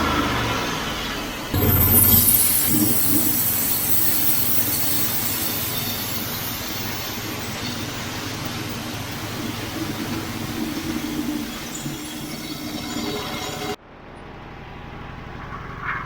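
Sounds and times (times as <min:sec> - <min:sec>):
engine running under load: 0:00.0 - 0:16.0.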